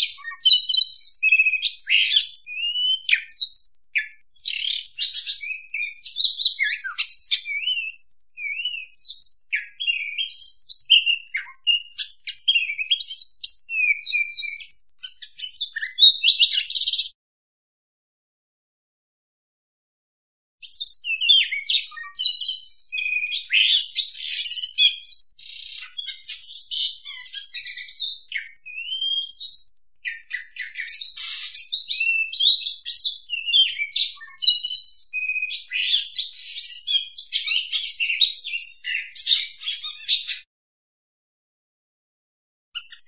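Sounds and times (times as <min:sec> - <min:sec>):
bird singing: 0:00.0 - 0:17.2, 0:20.6 - 0:40.5, 0:42.8 - 0:43.0.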